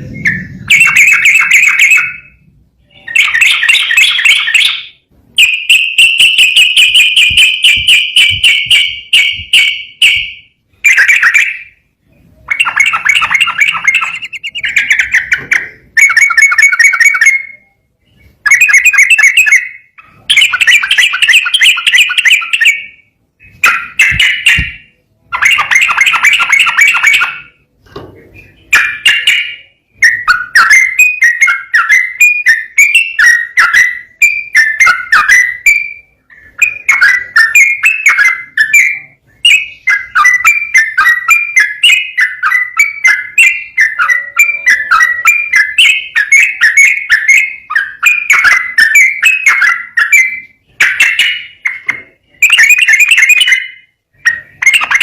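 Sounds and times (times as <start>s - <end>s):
bird singing warbling phrases: 0.0s - 55.0s.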